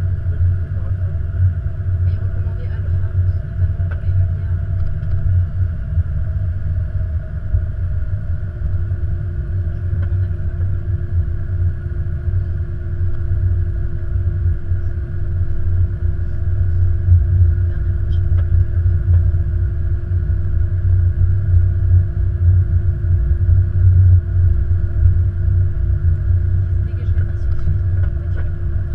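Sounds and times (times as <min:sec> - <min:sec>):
aircraft rolling on runway rumble: 0:00.0 - 0:28.9
faint steady hum: 0:00.0 - 0:28.9.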